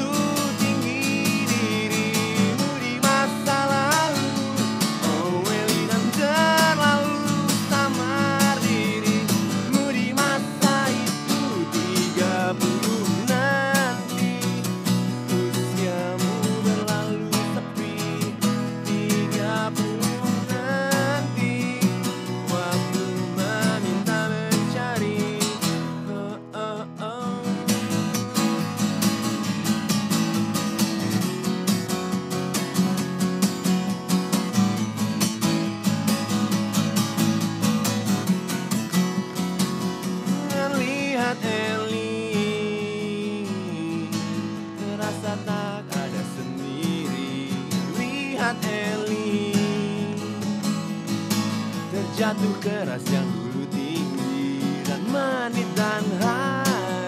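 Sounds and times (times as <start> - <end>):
acoustic guitars playing: 0.0 - 57.0.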